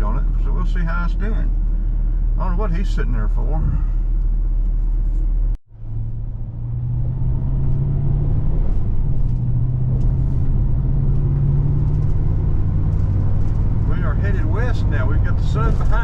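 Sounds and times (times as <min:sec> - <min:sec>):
car engine hum: 0:00.0 - 0:16.0
road noise rumble: 0:00.0 - 0:16.0.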